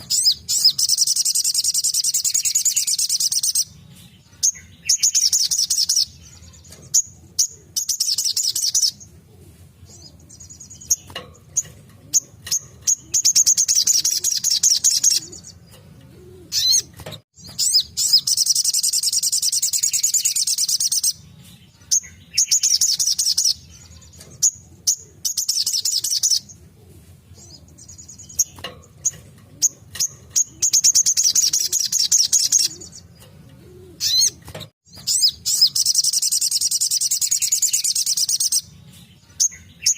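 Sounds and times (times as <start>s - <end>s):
bird chattering trills: 0.0s - 26.7s, 27.4s - 39.9s.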